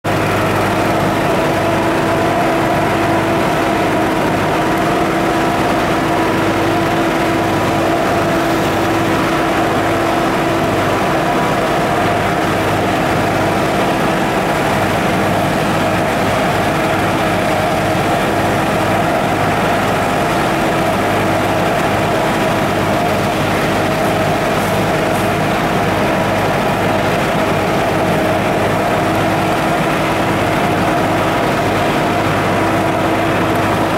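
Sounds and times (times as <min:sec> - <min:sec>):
sprayer blower fan humming: 0:00.0 - 0:33.9
tractor engine drone: 0:00.0 - 0:33.9.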